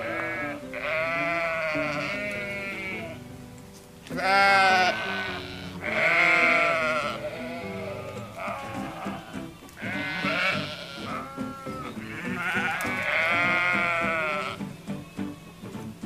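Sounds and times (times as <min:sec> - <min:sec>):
sheep bleating: 0:00.0 - 0:03.2, 0:04.1 - 0:14.7
soft background music: 0:00.0 - 0:16.0.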